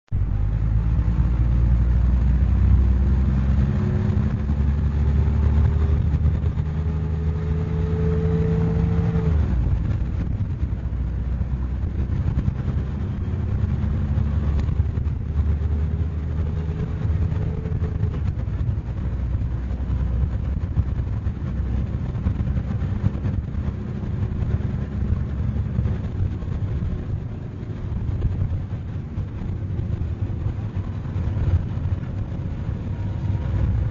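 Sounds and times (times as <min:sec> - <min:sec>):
bus diesel engine under load: 0:00.1 - 0:33.9.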